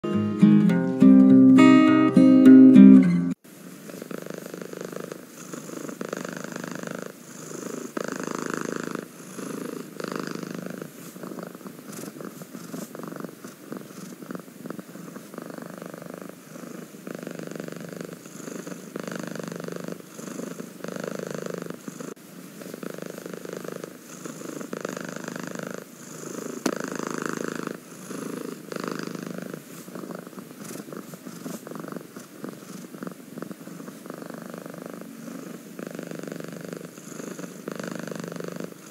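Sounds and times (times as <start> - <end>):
cat purring: 3.5 - 38.9.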